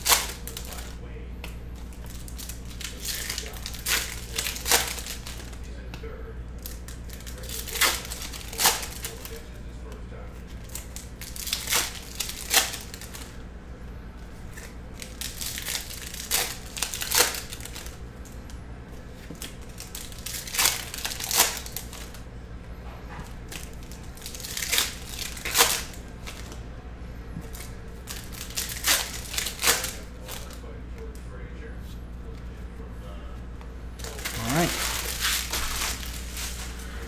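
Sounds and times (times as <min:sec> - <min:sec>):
foil wrappers crinkling: 0:00.0 - 0:01.0, 0:01.7 - 0:05.9, 0:06.5 - 0:13.4, 0:14.2 - 0:22.2, 0:23.2 - 0:26.6, 0:27.4 - 0:30.6, 0:34.0 - 0:37.0.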